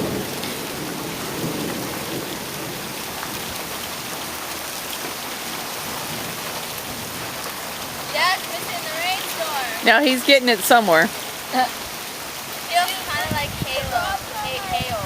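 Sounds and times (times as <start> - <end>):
rain drop ticks: 0.0 - 15.0
steady rain falling: 0.0 - 15.0.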